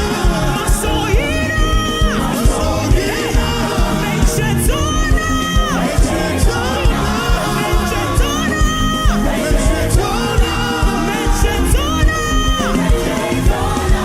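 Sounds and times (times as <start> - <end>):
gospel band playing: 0.0 - 14.0.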